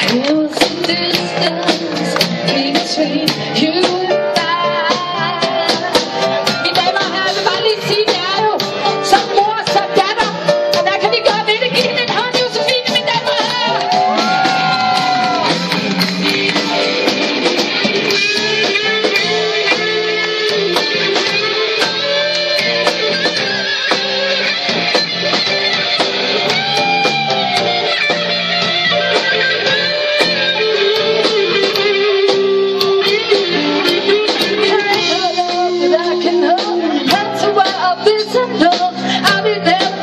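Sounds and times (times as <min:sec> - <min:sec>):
steady drum beat: 0:00.0 - 0:38.0
electric guitar: 0:00.0 - 0:40.0
live band playing: 0:00.0 - 0:40.0.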